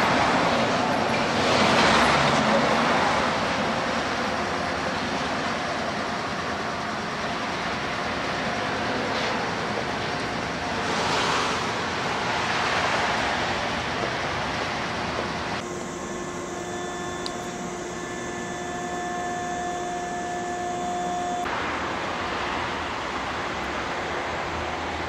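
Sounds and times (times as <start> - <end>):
steady humming tones: 0.0 - 25.0.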